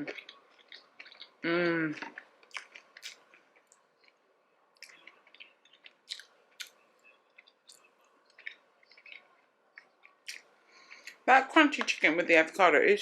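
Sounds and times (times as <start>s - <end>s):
person chewing with mouth clicks: 0.0s - 4.2s, 4.8s - 11.2s.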